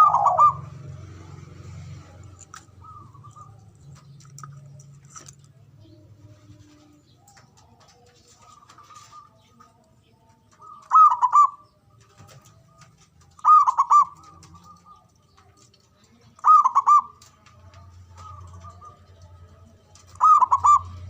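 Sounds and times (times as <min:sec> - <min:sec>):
dove cooing: 0:00.0 - 0:05.2, 0:05.8 - 0:09.6, 0:10.5 - 0:15.7, 0:16.3 - 0:19.3, 0:19.9 - 0:21.0.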